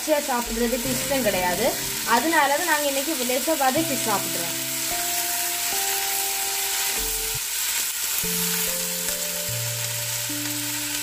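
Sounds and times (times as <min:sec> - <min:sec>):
soft background music: 0:00.0 - 0:07.4, 0:08.1 - 0:11.0
vegetables sizzling in a pan: 0:00.0 - 0:11.0.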